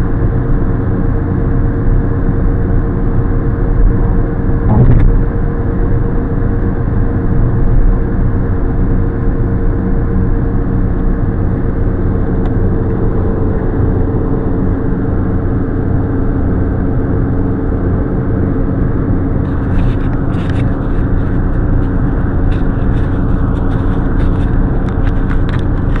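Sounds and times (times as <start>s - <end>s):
car engine and road noise: 0.0s - 26.0s
low hum: 0.0s - 26.0s.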